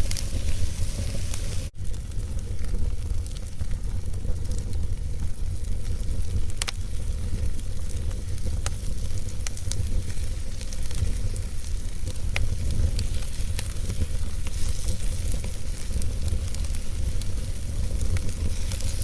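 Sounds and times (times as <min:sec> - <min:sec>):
fire pops and snaps: 0:00.0 - 0:19.0
low rumble of burning fire: 0:00.0 - 0:19.0.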